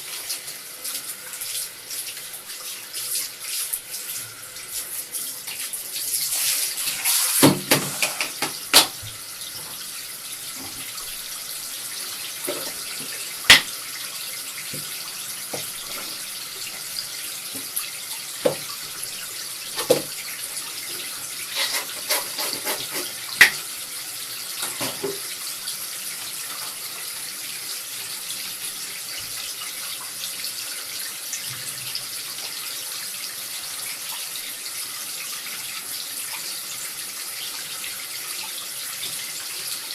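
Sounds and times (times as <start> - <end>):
tap water running: 0.0 - 39.9.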